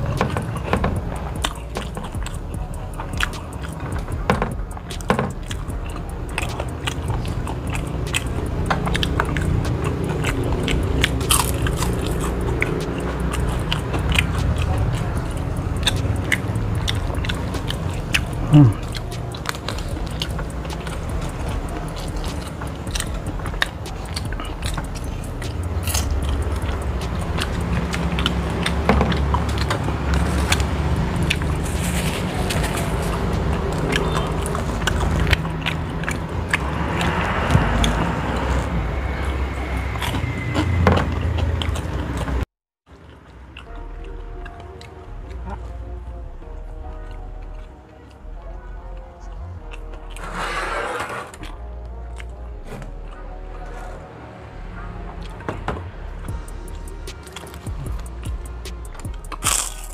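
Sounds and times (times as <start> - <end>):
person biting and chewing food: 0.0 - 45.9, 56.3 - 59.9.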